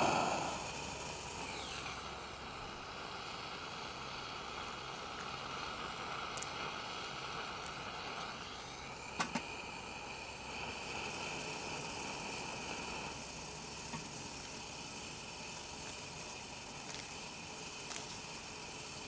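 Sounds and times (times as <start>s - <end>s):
camp stove hissing: 0.0s - 19.0s.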